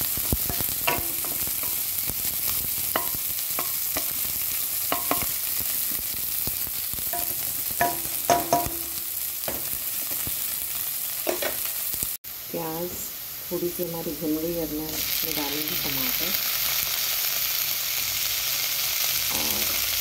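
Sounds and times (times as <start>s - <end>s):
vegetables sizzling in hot oil: 0.0s - 20.0s.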